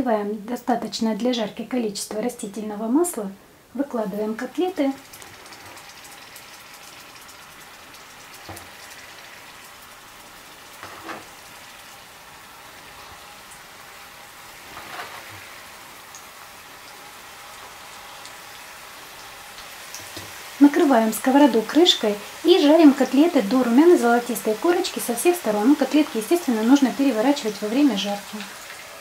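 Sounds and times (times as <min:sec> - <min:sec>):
oil sizzling in a frying pan: 0:03.8 - 0:29.0.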